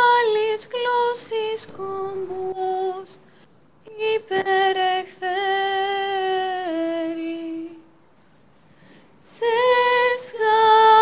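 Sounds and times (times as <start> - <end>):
woman singing long held notes: 0.0 - 7.9, 9.2 - 11.0.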